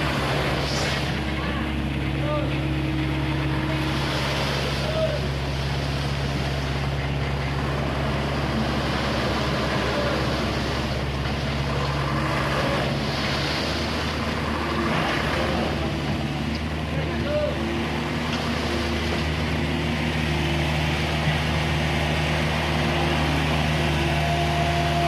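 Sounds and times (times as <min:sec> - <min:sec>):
excavator diesel engine droning: 0:00.0 - 0:25.0.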